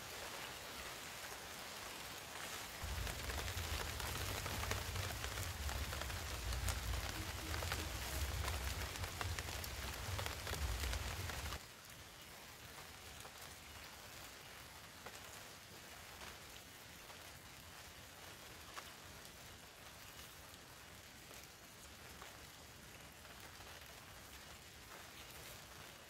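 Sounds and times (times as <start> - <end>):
rain pattering on foliage: 0.0 - 26.0.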